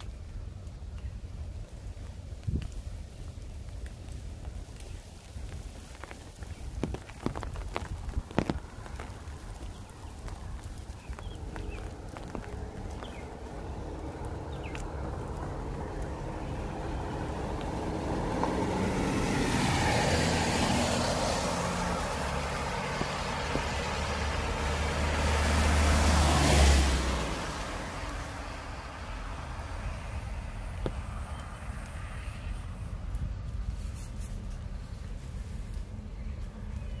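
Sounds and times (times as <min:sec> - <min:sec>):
low engine rumble: 0:00.0 - 0:37.0
tyres hissing on wet road: 0:00.0 - 0:37.0.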